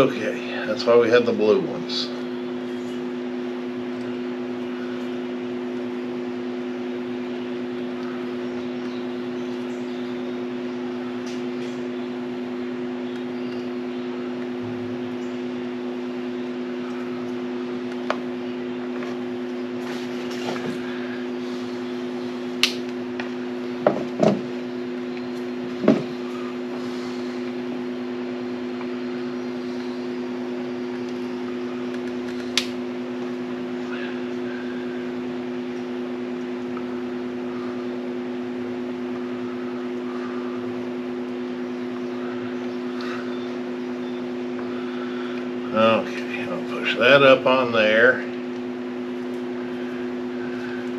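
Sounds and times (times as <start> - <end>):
steady machine hum: 0.0 - 50.9.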